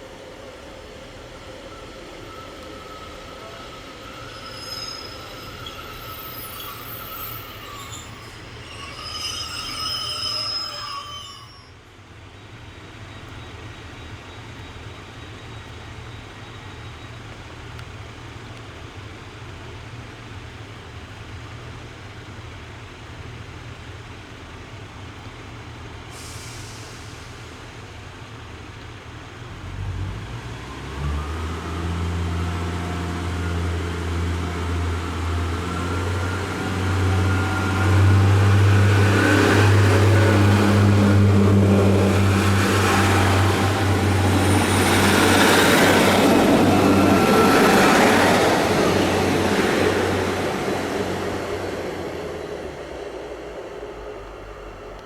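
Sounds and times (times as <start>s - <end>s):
diesel train engine hum: 0.0s - 55.0s
train wheels rolling on rails: 0.0s - 55.0s.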